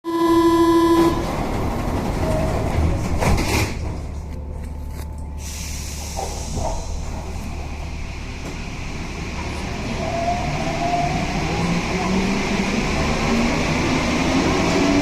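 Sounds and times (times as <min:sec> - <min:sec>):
train running low hum: 0:00.1 - 0:15.0.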